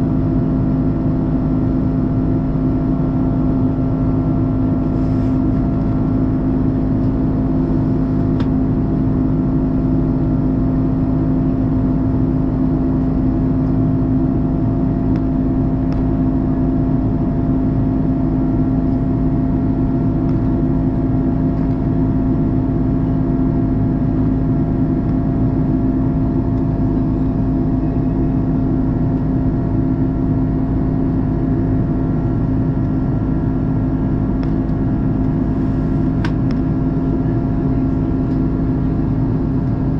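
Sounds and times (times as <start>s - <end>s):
airplane cabin engine drone: 0.0s - 39.9s
steady humming tones: 0.0s - 39.9s.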